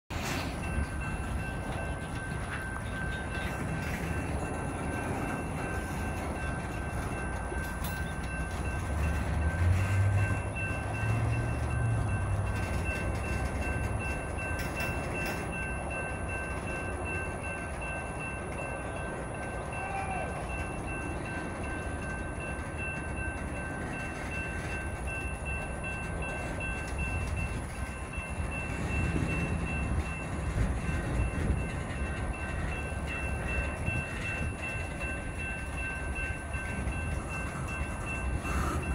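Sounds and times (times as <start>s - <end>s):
train wheels rumbling on rails: 0.1s - 38.9s.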